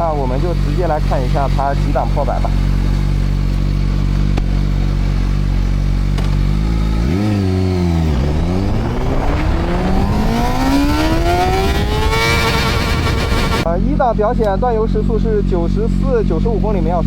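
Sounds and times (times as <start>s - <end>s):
motorcycle engine revving: 0.0s - 13.7s.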